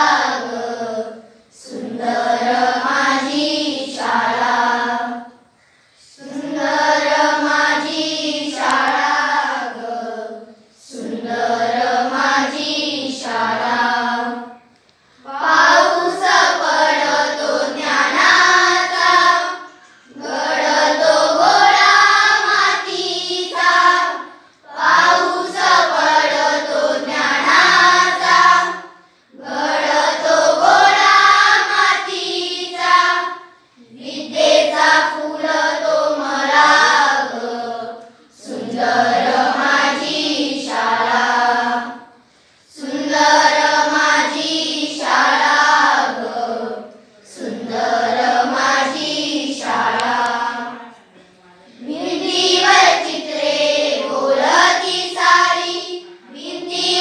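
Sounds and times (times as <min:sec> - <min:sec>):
children singing in unison: 0:00.0 - 0:57.0.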